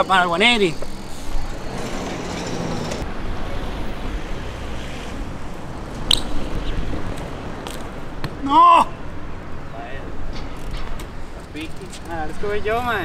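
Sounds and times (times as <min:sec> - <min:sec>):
bike rolling on concrete: 0:00.0 - 0:08.4, 0:09.8 - 0:13.0.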